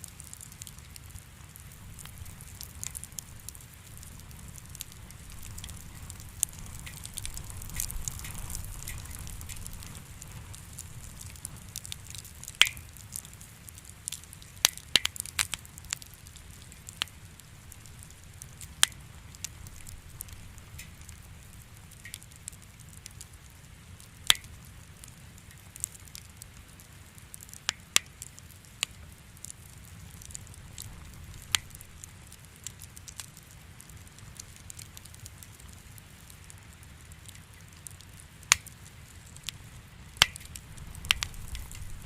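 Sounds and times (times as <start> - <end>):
fire pops and snaps: 0.0 - 42.0
low fire rumble: 0.0 - 42.0
wood fire crackling: 0.0 - 42.0.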